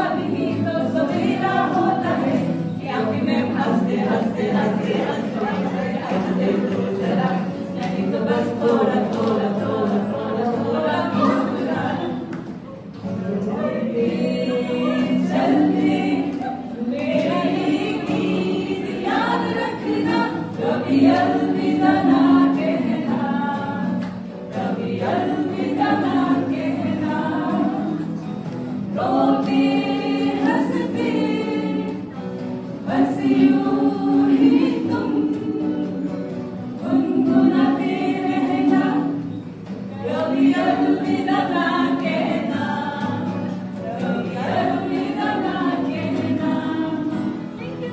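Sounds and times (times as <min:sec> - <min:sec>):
acoustic guitar: 0:00.0 - 0:47.9
group of people singing: 0:00.0 - 0:47.9.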